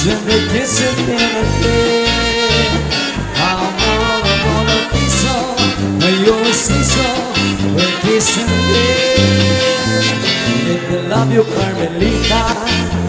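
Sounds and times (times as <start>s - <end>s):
acoustic guitar: 0.0s - 13.0s
electric bass: 0.0s - 13.0s
keyboard: 0.0s - 13.0s
trumpet melody: 0.0s - 13.0s.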